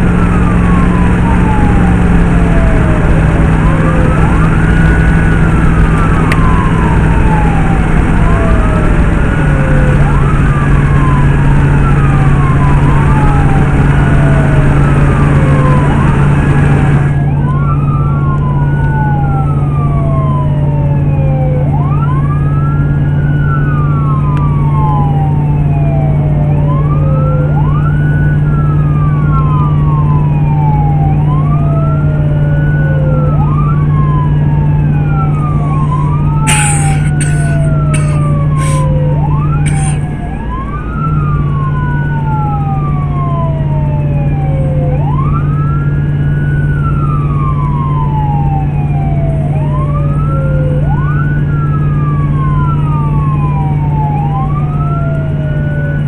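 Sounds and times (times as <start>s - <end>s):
siren wailing: 0.0s - 56.0s
vehicle drone: 0.0s - 56.0s.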